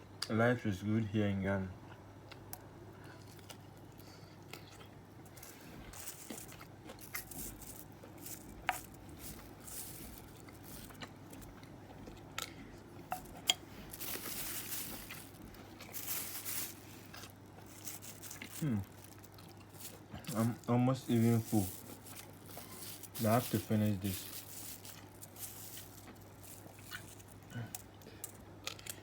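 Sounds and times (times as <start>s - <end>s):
faint low hum: 0.0s - 29.0s
close-up chewing: 1.9s - 29.0s.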